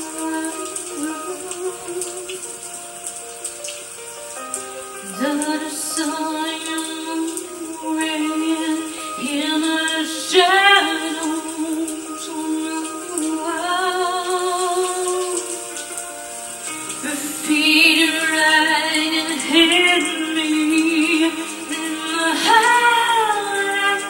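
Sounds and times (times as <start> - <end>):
woman singing in a funny voice: 0.0 - 2.5, 5.0 - 15.5, 17.0 - 24.0.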